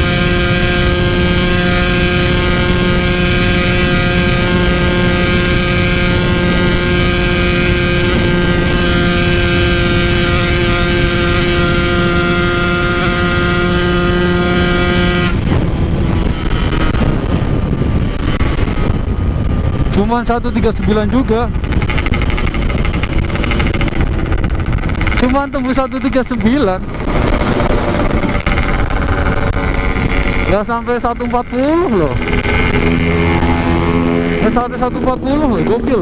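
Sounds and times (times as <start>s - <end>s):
motorcycle engine at high revs: 0.0s - 36.0s
wind rushing: 0.0s - 36.0s.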